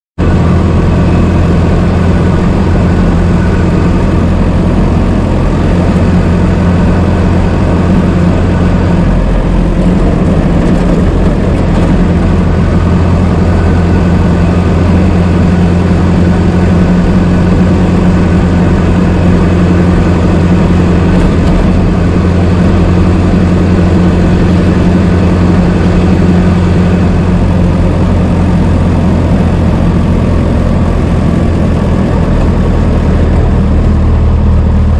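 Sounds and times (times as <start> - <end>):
car engine running: 0.2 - 34.9.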